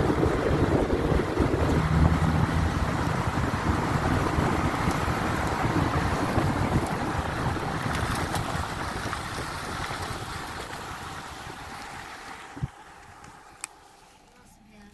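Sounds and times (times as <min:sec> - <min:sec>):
tyre and wind rumble: 0:00.0 - 0:13.6.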